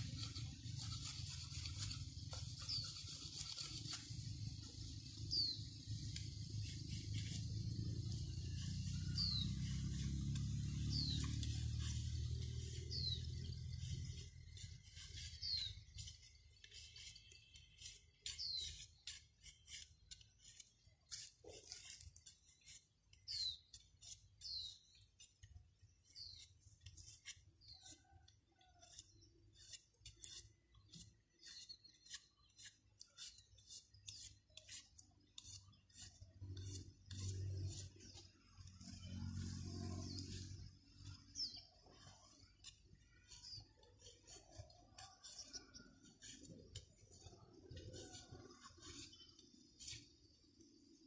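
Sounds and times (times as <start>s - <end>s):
blade scraping bamboo: 0.0s - 51.0s.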